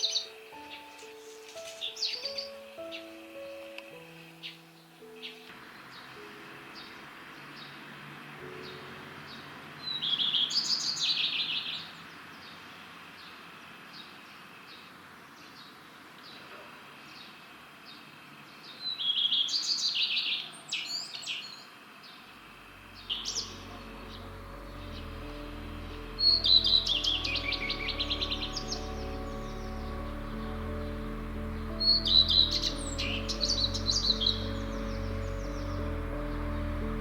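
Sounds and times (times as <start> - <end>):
bird song with twitter: 0.0 - 7.8, 8.4 - 16.5, 18.6 - 22.3, 22.9 - 37.0.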